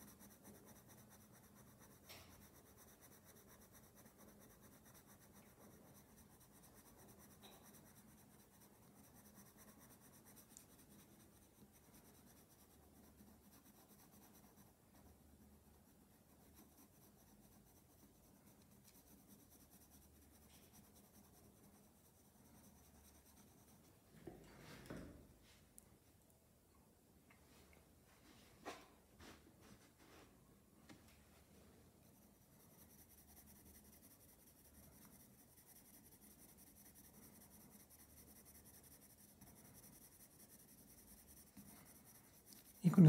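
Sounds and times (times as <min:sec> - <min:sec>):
pencil scratching on paper: 0:00.0 - 0:24.0, 0:32.0 - 0:43.0.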